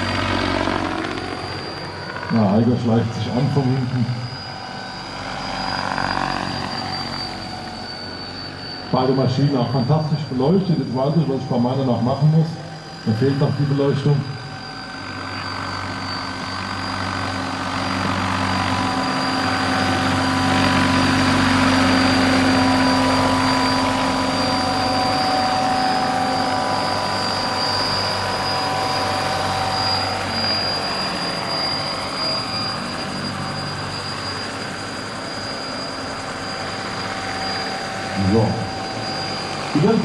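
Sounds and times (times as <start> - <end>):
high whine: 0.0 - 40.0
model helicopter rotor hum: 0.0 - 40.0.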